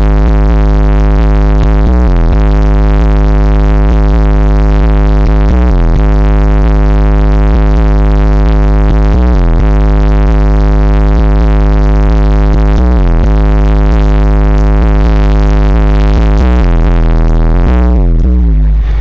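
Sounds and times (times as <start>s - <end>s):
bass-heavy electronic music: 0.0s - 19.0s.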